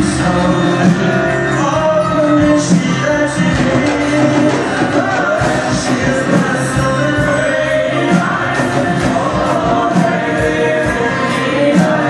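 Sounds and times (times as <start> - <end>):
drum beats: 0.0 - 12.0
folk-rock band playing: 0.0 - 12.0.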